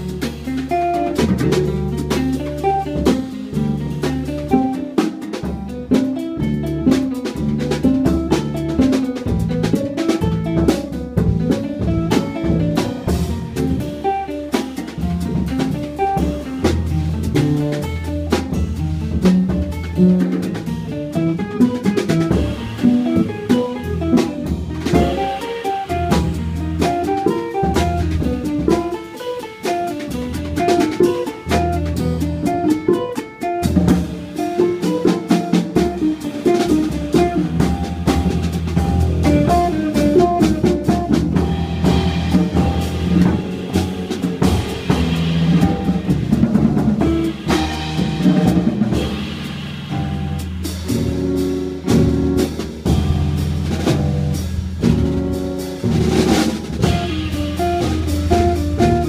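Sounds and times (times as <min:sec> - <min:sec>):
plucked upright bass: 0:00.0 - 0:29.0, 0:29.7 - 0:59.0
drum and cymbal strokes: 0:00.0 - 0:59.0.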